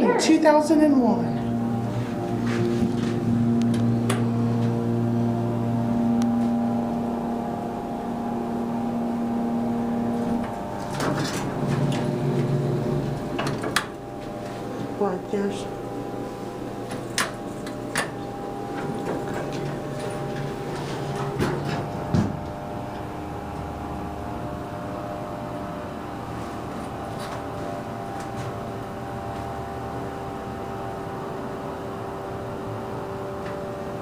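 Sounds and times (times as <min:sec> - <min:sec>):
elevator doors closing: 0:00.0 - 0:34.0
elevator hum and whine: 0:00.0 - 0:34.0.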